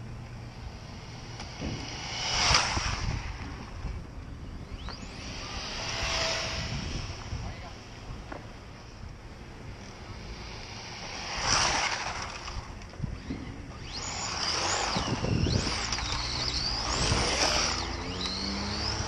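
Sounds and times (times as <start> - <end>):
electric motor whining: 0.3 - 19.0.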